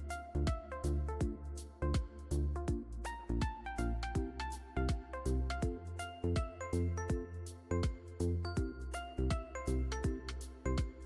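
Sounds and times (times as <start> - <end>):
upbeat instrumental music: 0.0 - 11.0.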